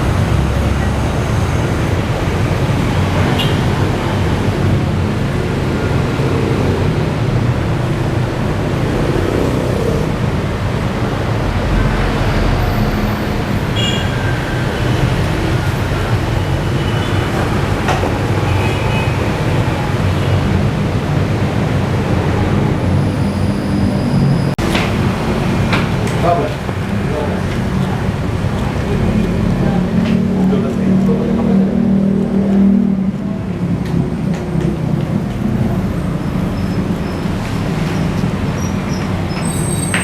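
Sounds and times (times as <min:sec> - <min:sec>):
road traffic rumble: 0:00.0 - 0:32.4.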